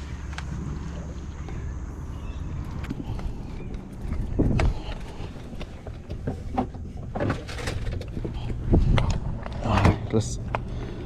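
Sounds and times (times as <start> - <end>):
gear clattering on a boat: 0.0 - 11.0
low rumble: 0.0 - 11.0.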